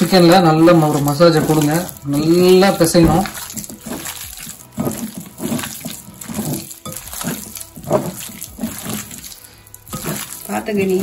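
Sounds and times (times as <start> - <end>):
hands squelching raw chicken: 0.0 - 11.0.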